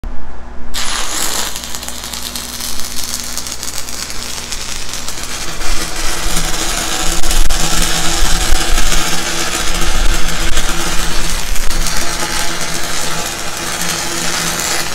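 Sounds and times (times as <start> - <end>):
steady low hum: 0.0 - 14.7
welding arc crackling: 0.7 - 14.9.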